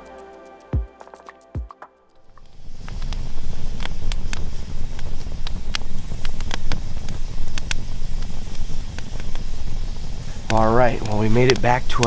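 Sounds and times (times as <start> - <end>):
campfire logs crackling and popping: 2.2 - 12.0
fire low rumble: 2.3 - 12.0.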